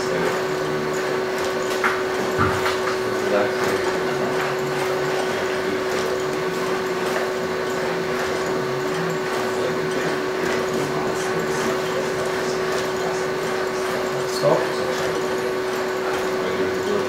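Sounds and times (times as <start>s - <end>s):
robot motors humming and whirring: 0.0s - 17.0s.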